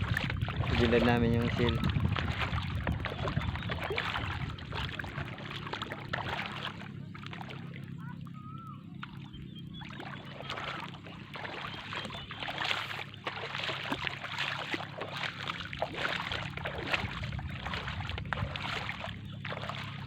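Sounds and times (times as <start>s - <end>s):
shallow water sloshing: 0.0s - 20.0s
steady low hum: 0.0s - 20.0s.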